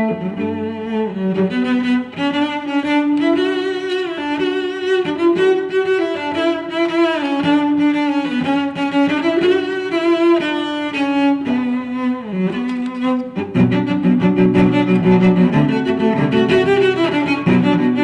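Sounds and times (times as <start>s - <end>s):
bowed string melody: 0.0s - 18.0s.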